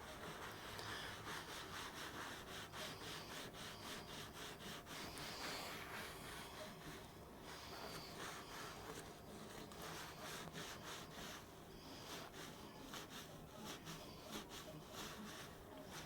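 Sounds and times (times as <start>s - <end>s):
faint scrubbing strokes: 0.0s - 16.0s.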